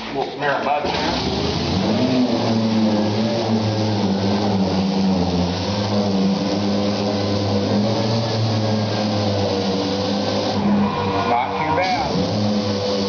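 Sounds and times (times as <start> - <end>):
orbital sander humming: 1.3 - 13.0.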